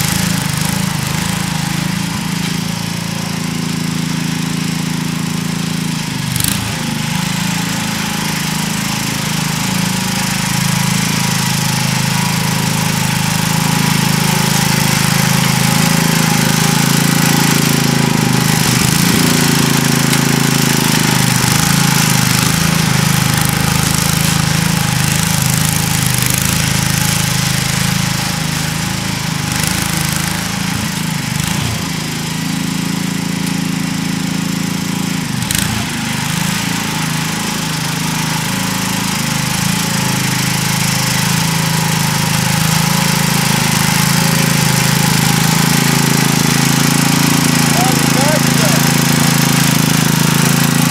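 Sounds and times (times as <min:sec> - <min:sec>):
garden tractor engine running: 0:00.0 - 0:50.9.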